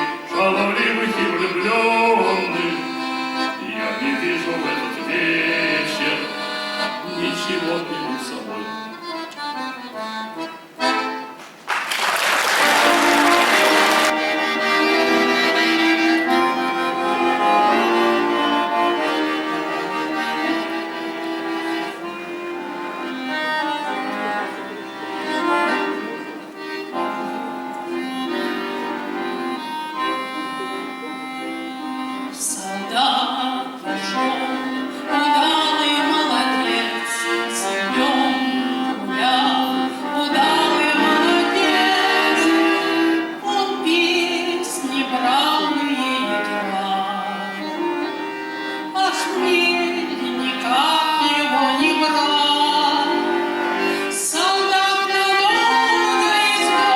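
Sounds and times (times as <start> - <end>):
accordion music: 0.0 - 56.9.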